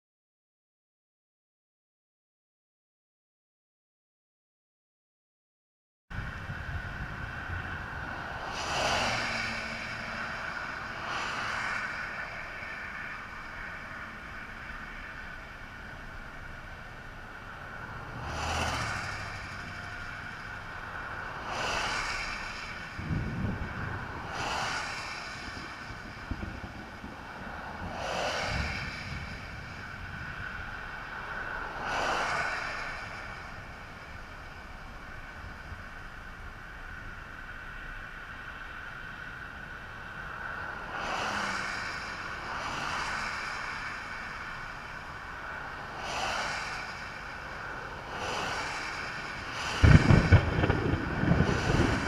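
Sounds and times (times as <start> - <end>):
steady low rumble: 6.1 - 41.0, 43.8 - 52.0
cars passing by: 6.1 - 52.0.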